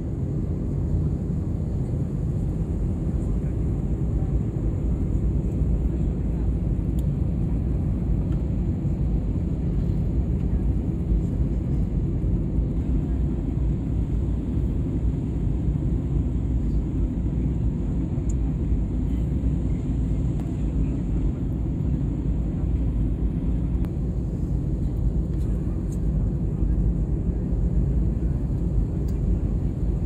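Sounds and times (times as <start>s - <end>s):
jet engine and airflow rumble: 0.0s - 30.0s.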